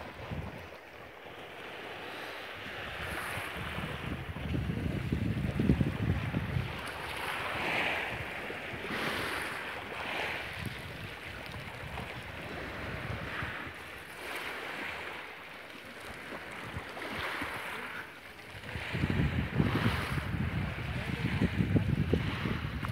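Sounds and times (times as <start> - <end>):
wind rumble on microphone: 0.0 - 0.9, 1.9 - 15.2, 16.0 - 22.9
waves washing over pebbles: 0.0 - 22.9.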